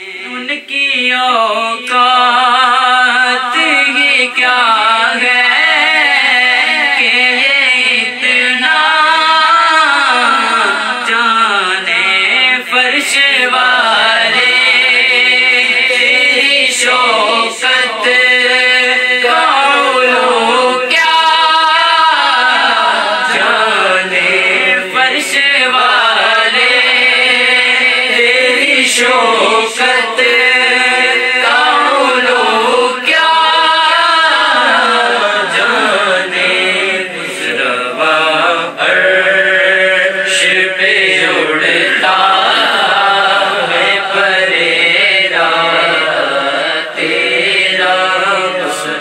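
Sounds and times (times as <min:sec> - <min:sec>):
person singing devotional poetry: 0:00.0 - 0:49.0.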